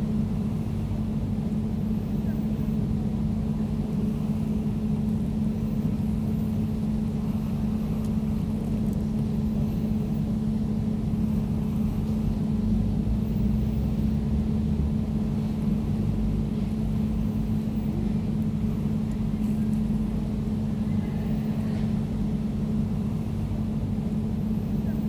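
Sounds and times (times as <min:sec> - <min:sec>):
air conditioner humming: 0:00.0 - 0:25.0.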